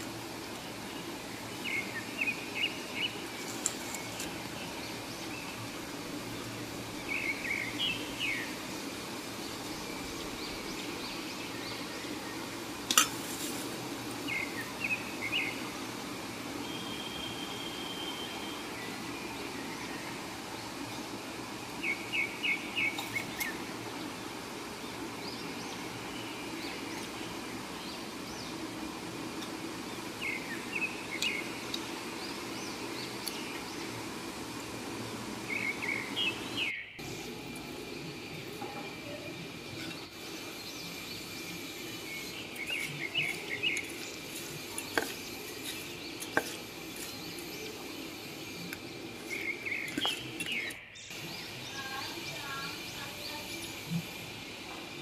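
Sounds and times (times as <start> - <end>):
small birds chirping: 0.0 - 54.6
steady background noise: 0.0 - 55.0.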